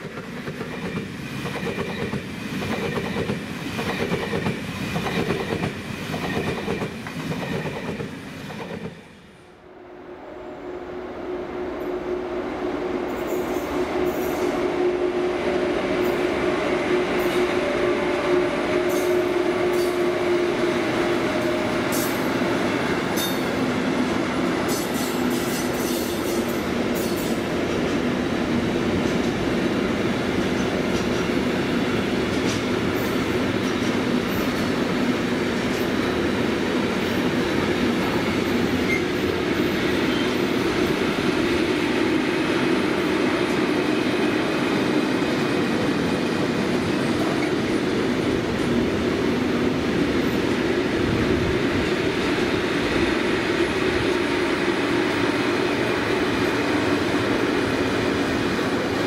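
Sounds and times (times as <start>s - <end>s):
train rolling past: 0.0s - 59.0s.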